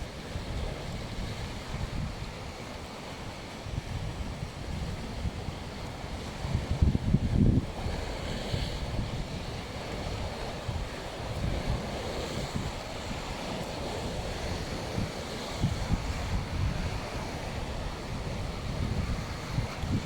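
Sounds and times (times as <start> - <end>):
waves washing onto shore: 0.0 - 20.0
wind buffeting microphone: 0.0 - 20.0.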